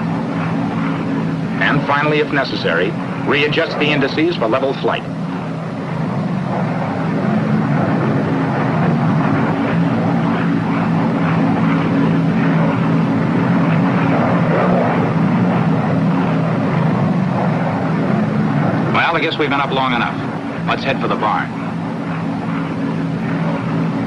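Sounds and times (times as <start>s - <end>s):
airplane piston engines droning: 0.0s - 24.0s.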